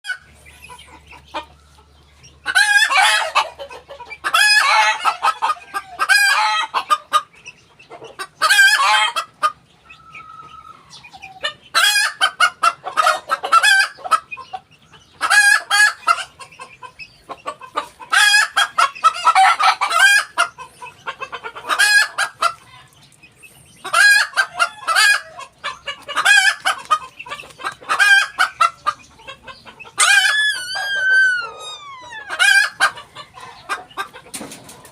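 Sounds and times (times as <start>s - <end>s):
hen clucking harshly: 0.0s - 34.9s.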